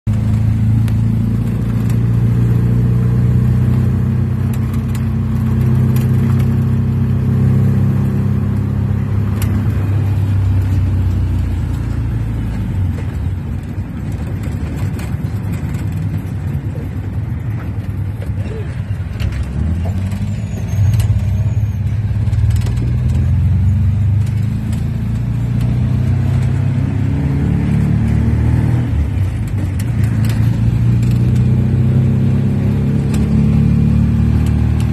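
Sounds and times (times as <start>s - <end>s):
car engine running while driving: 0.0s - 34.9s.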